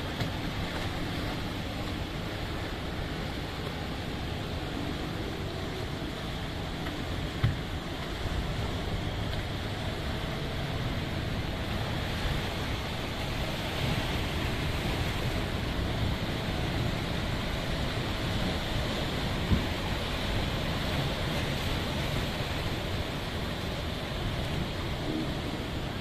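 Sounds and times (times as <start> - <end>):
sea surf breaking over rocks: 0.0 - 26.0.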